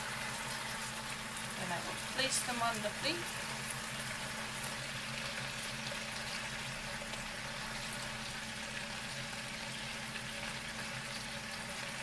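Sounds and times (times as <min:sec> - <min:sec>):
marinade sizzling in frying pan: 0:00.0 - 0:12.0.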